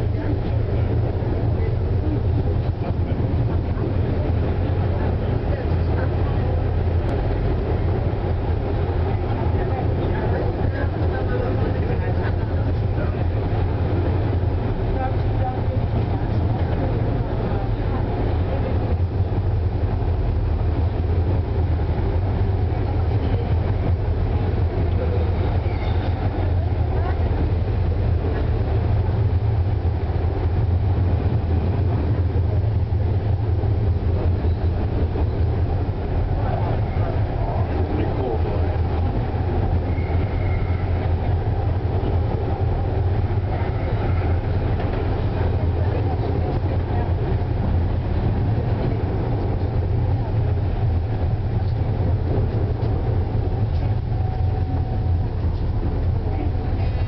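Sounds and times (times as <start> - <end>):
suspension railway car rumbling: 0.0 - 57.0.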